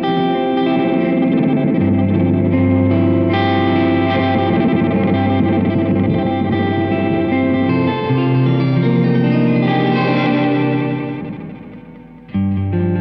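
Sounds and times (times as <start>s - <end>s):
electric guitar with delay: 0.0s - 13.0s.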